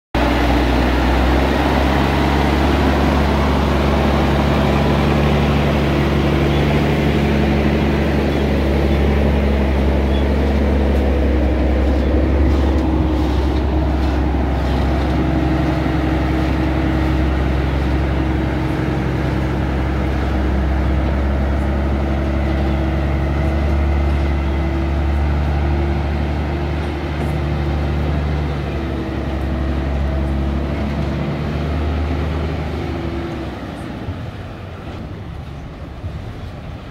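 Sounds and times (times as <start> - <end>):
truck diesel engine running: 0.2 - 36.9.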